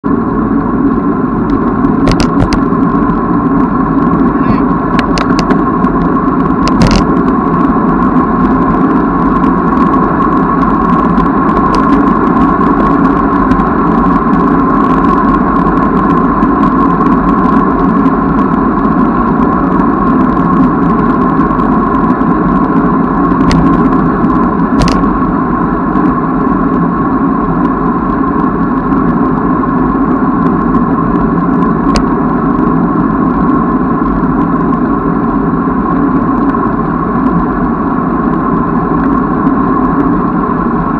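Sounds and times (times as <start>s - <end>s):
bicycle wind and tyre rushing: 0.0s - 40.9s.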